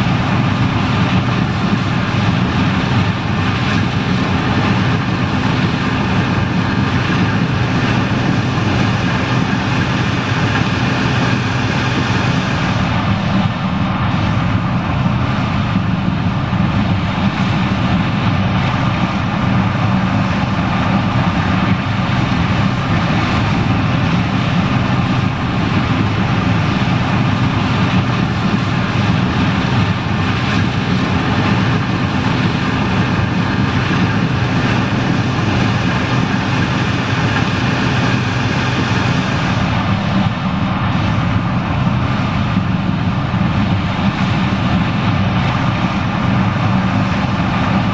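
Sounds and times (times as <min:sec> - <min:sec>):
combine harvester engine drone: 0:00.0 - 0:47.9
machine whine: 0:00.0 - 0:47.9.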